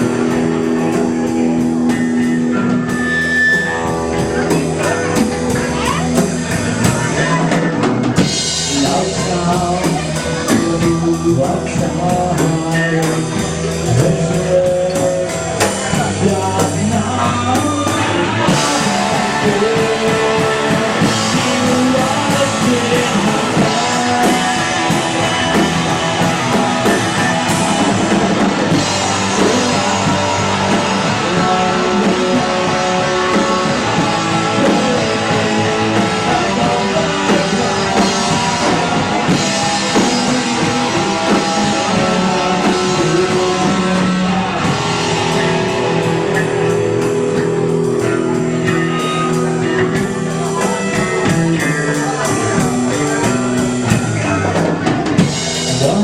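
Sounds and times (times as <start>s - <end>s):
live rock band playing: 0.0s - 56.0s
person singing: 0.0s - 56.0s.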